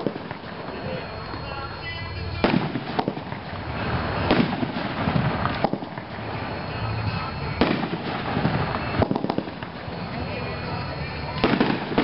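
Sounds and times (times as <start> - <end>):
fireworks crackling: 0.0 - 12.0
fireworks reports: 0.0 - 12.0.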